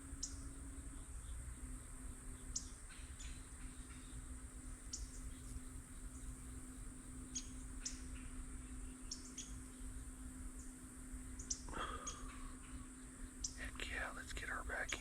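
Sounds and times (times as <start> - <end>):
high-pitched insect drone: 0.0 - 14.2.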